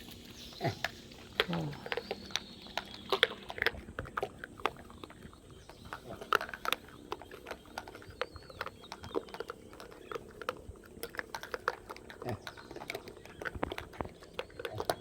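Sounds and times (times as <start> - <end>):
monkeys crunching food: 0.0 - 15.0.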